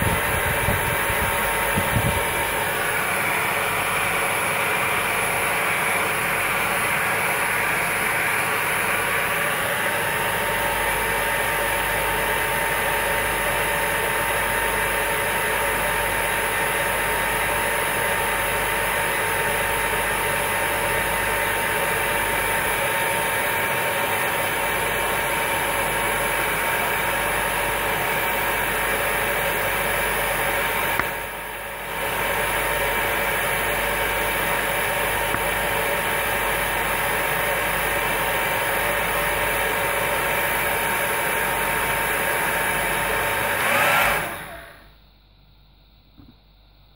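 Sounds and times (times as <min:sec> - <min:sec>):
hair dryer running: 0:00.0 - 0:16.3, 0:20.2 - 0:36.3, 0:37.0 - 0:44.8.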